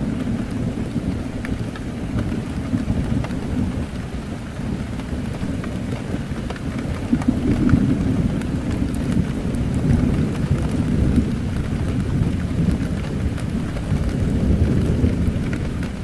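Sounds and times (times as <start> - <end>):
heavy rain on a window: 0.0 - 16.0.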